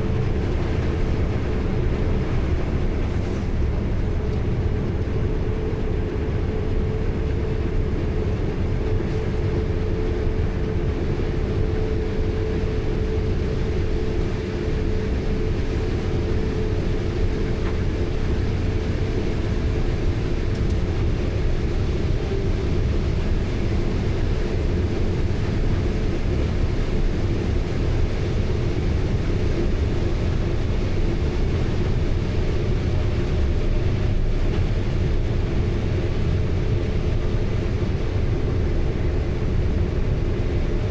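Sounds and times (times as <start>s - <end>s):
diesel farm machinery running: 0.0s - 40.9s.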